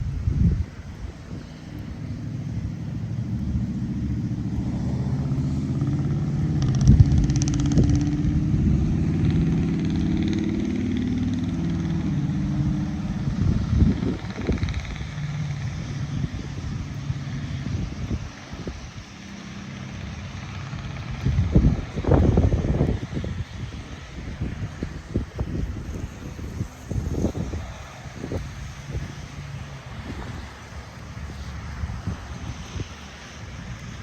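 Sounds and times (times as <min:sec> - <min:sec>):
low rumbling wind gusts: 0:00.0 - 0:34.0
vehicle driving past: 0:01.3 - 0:34.0.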